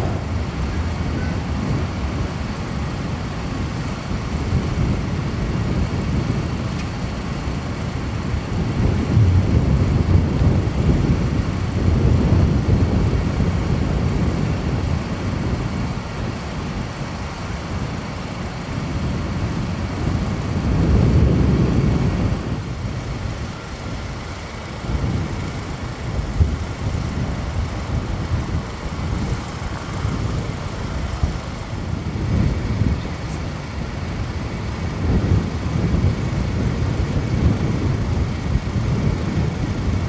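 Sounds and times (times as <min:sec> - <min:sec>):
distant jet engine rumble: 0:00.0 - 0:40.0.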